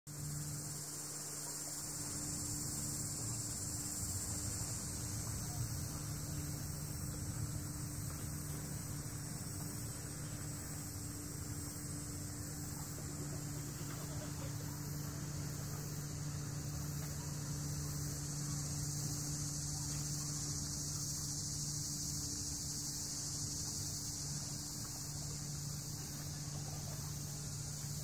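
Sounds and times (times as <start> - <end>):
constant hiss: 0.1 - 28.0.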